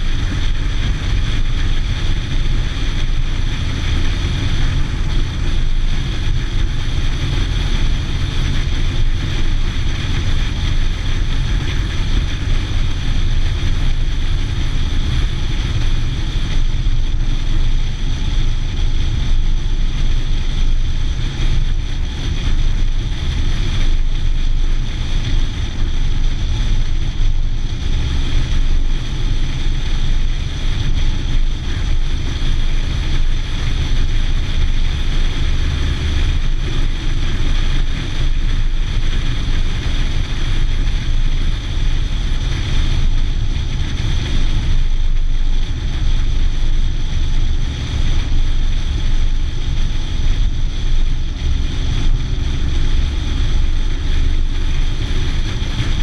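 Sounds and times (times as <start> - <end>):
car road and engine rumble: 0.0 - 56.0
wind rushing over microphone: 0.0 - 56.0.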